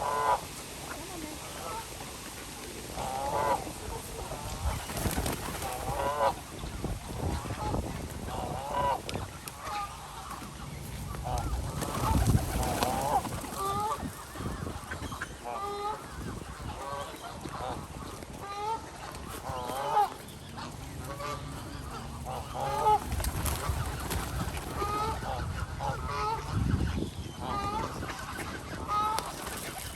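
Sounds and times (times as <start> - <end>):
geese honking: 0.0 - 29.9.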